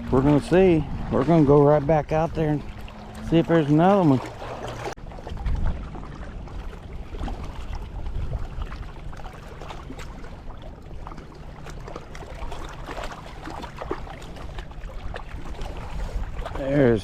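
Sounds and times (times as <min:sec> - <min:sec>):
wind buffeting microphone: 0:00.0 - 0:11.1, 0:12.4 - 0:17.0
small waves lapping: 0:00.0 - 0:17.0.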